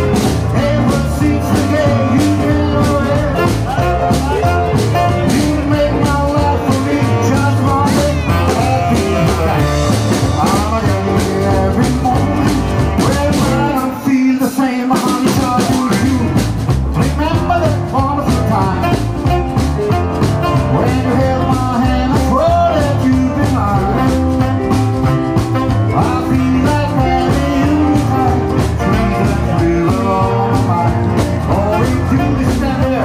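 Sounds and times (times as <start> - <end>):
man singing: 0.0 - 33.0
rock and roll band playing: 0.0 - 33.0.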